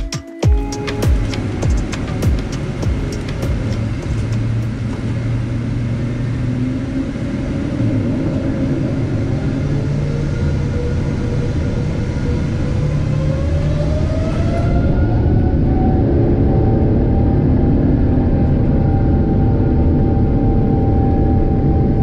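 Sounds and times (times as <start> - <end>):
jet engines rumbling and whining: 0.1 - 22.0.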